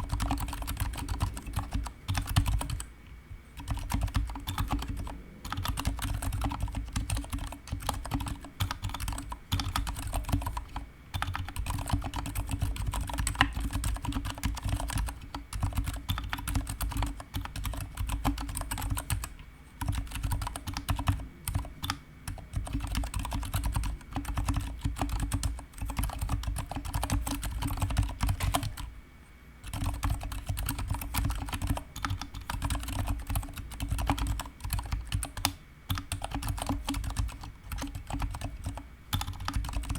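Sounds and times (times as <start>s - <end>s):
mechanical keyboard typing: 0.0s - 2.9s, 3.6s - 28.9s, 29.6s - 39.9s.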